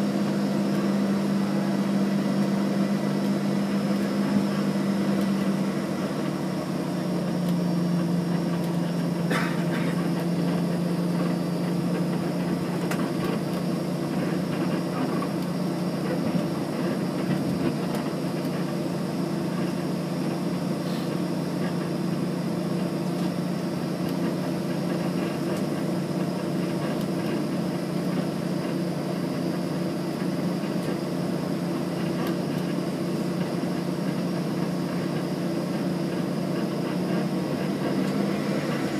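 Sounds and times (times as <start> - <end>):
aircraft engines humming: 0.0 - 38.9
high steady engine whine: 0.0 - 38.9.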